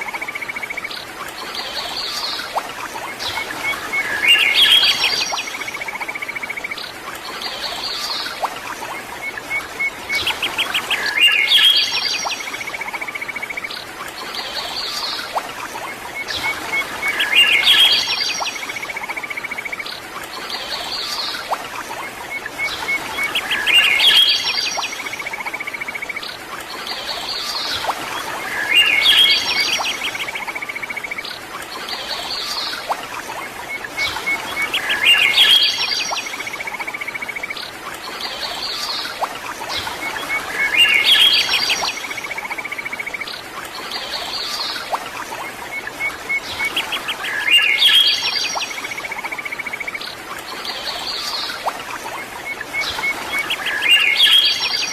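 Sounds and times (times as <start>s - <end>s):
birdsong trills and chirps: 0.0s - 54.9s.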